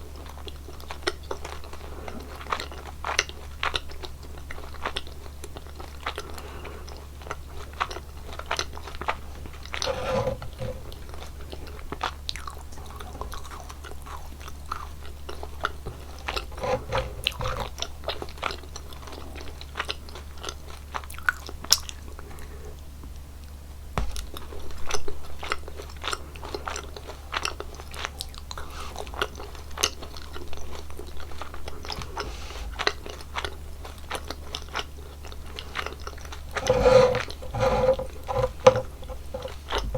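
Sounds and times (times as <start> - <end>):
chewing gummy candies: 0.0 - 9.9, 10.6 - 22.9, 24.1 - 37.5.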